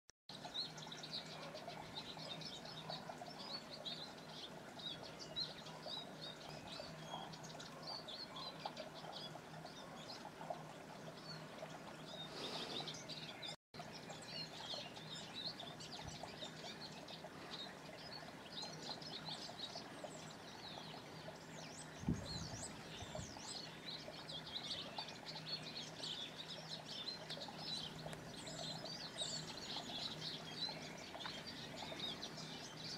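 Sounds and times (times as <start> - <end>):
bird twittering song: 0.3 - 32.9.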